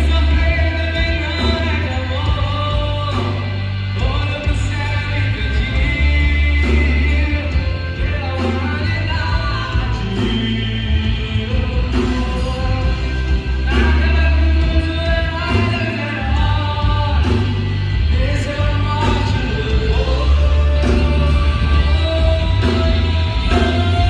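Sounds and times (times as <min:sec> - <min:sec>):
singing over heavy bass music: 0:00.0 - 0:24.0.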